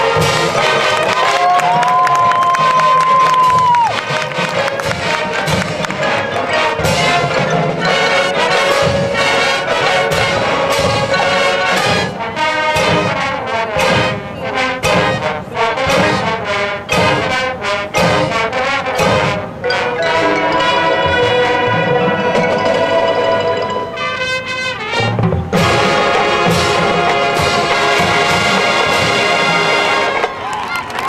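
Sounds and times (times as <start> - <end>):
drum and percussion hits: 0.0 - 23.8, 25.0 - 30.5
marching band brass chords: 0.0 - 31.0.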